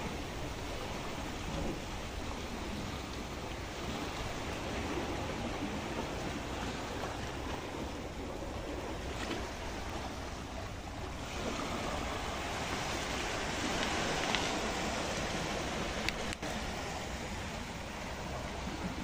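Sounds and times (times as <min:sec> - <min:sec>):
sea waves splashing on rocks: 0:00.0 - 0:19.0.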